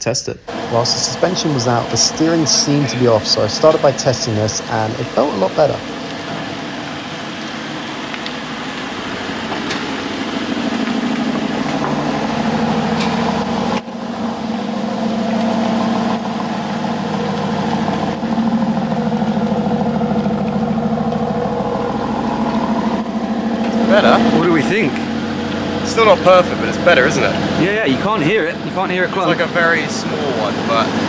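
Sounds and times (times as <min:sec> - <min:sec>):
road noise: 0:00.0 - 0:31.0
car engine: 0:00.4 - 0:31.0.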